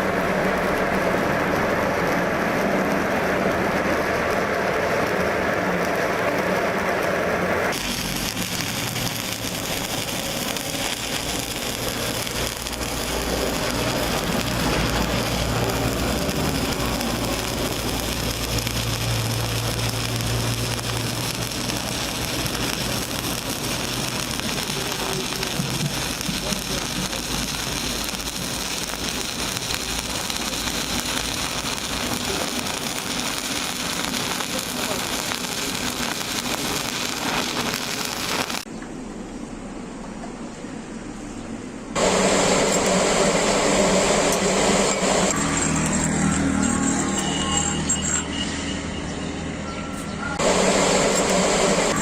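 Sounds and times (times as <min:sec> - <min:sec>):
welding arc crackling: 0:00.0 - 0:38.7, 0:41.9 - 0:49.5, 0:50.4 - 0:52.0.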